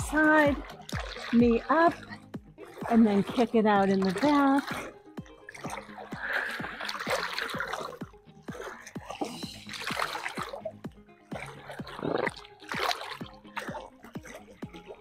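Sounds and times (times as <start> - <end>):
music with fast beat: 0.0 - 3.4, 5.2 - 14.9
water splashing in pool: 0.0 - 15.0.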